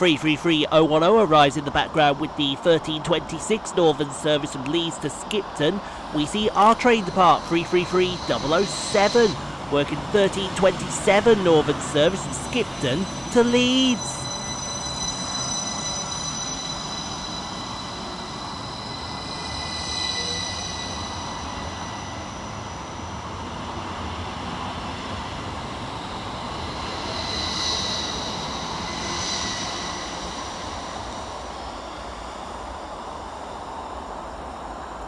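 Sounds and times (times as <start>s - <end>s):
electric traction whine: 0.0s - 35.0s
train wheels rushing on rail: 0.0s - 35.0s.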